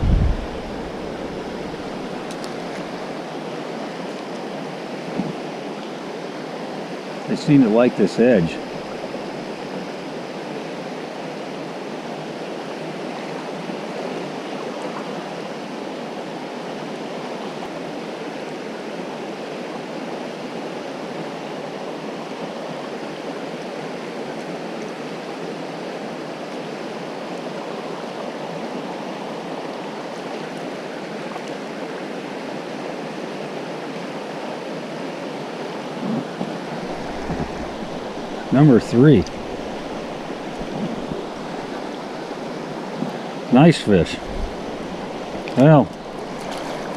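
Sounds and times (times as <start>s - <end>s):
river rushing over rocks: 0.0s - 46.9s.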